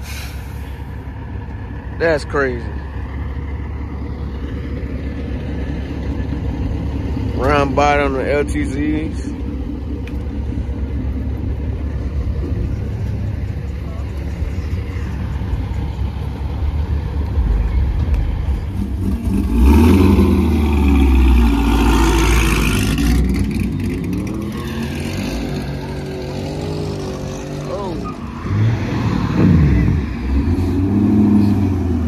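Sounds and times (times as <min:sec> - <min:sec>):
truck accelerating with exhaust blast: 0:00.0 - 0:32.0
vehicle engines rumbling: 0:00.0 - 0:32.0.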